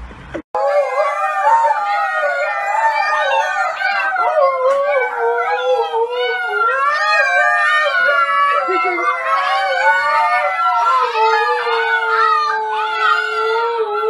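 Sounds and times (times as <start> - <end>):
dog and puppies howling: 0.6 - 14.0.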